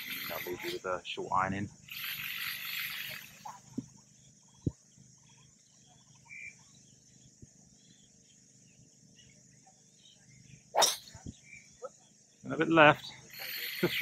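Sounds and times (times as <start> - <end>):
faint bird chirps: 0.0 - 14.0
high insect drone: 0.0 - 14.0.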